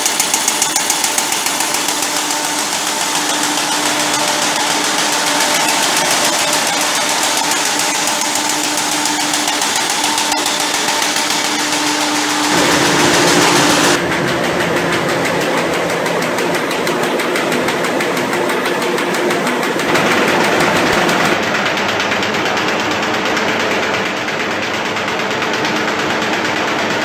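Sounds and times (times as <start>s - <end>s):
paper bag machine clattering: 0.0s - 27.0s.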